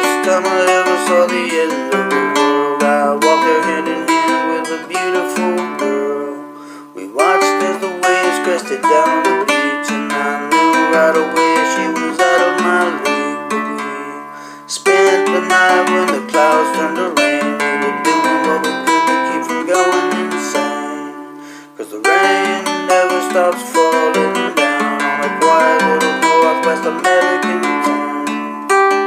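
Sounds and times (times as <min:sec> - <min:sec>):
acoustic guitar playing: 0:00.0 - 0:29.0.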